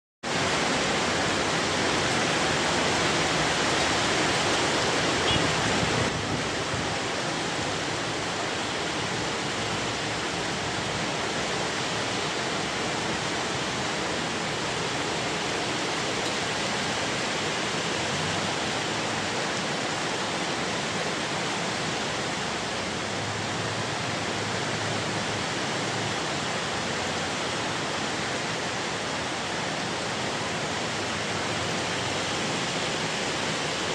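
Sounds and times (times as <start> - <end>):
heavy rain pouring: 0.2 - 33.9.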